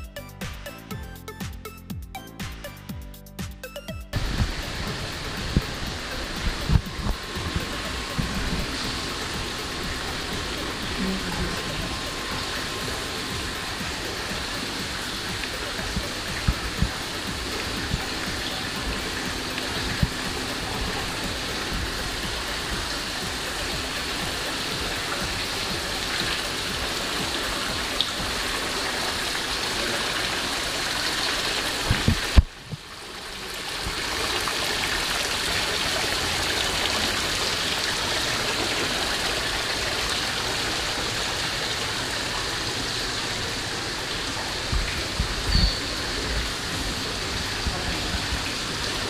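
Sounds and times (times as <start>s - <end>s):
water splashing into pond: 4.2s - 49.0s.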